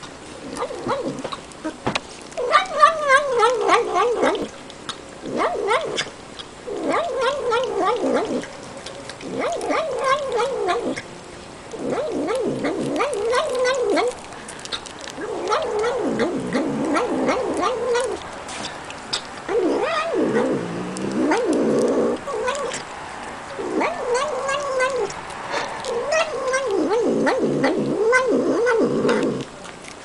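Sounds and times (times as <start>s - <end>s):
cat crunching kibble: 0.0s - 30.0s
cat vocalizing while eating: 0.0s - 30.0s.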